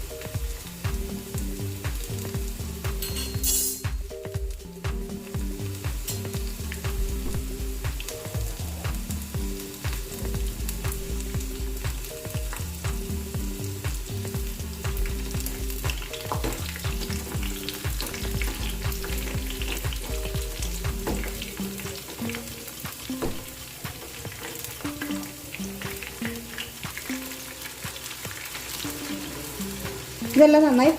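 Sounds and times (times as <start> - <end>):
chicken deep-frying in oil: 0.0 - 30.9
soft background music: 0.0 - 30.9.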